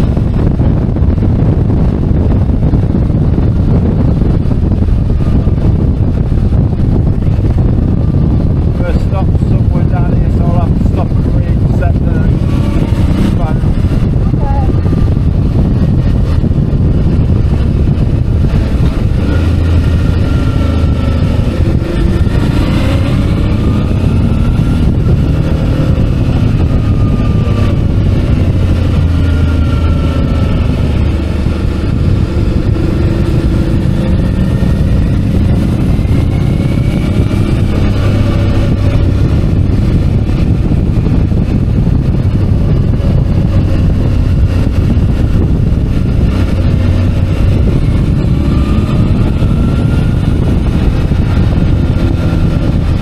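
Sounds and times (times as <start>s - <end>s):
heavy low rumble: 0.0s - 53.0s
motorcycle engine running: 0.0s - 53.0s.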